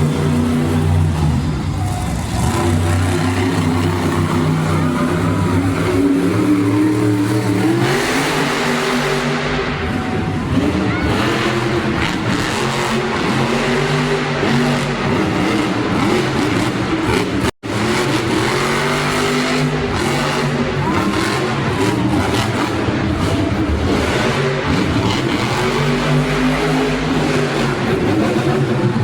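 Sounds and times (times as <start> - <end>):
arena crowd noise: 0.0 - 29.0
monster truck engine revving: 0.0 - 29.0.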